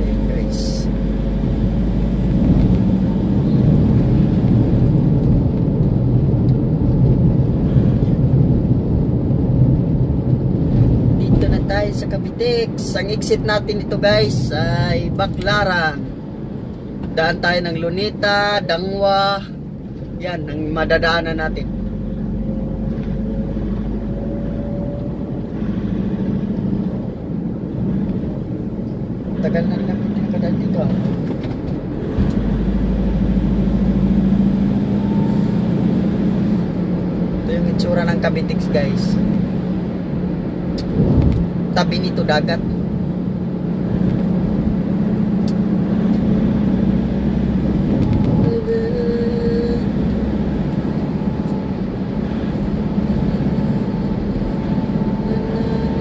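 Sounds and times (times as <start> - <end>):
vehicle road and engine rumble: 0.0 - 56.0.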